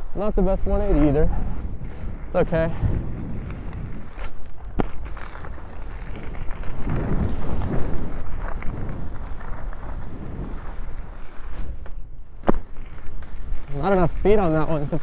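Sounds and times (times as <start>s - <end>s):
wind buffeting microphone: 0.0s - 12.4s
skis scraping over snow: 0.0s - 15.0s.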